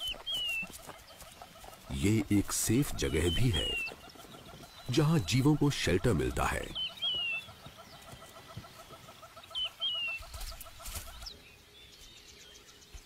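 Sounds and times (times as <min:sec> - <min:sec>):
fast pulsing bird call: 0:00.0 - 0:11.3.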